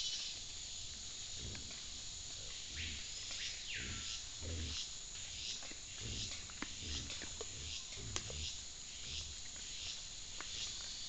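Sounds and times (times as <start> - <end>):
insects hissing: 0.0 - 11.0
peccaries grunting and rooting: 1.0 - 10.8.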